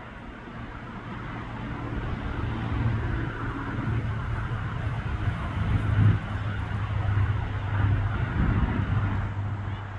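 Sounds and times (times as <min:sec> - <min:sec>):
passing vehicle engine rumble: 0:00.0 - 0:09.9
traffic noise: 0:00.0 - 0:09.9.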